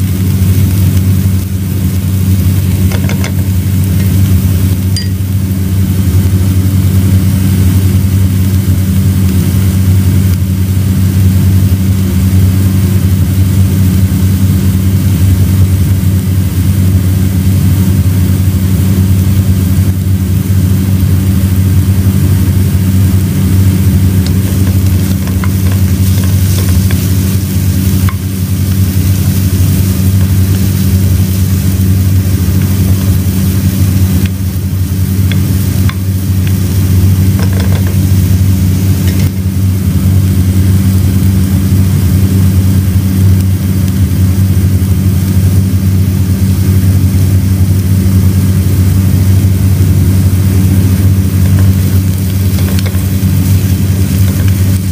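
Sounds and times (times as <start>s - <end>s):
loud low hum: 0.0s - 54.9s
vegetables sizzling in a pot: 0.0s - 54.9s.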